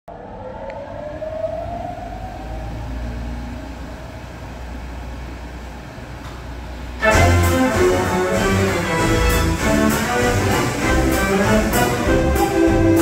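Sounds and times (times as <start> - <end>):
low hum: 0.1 - 13.0.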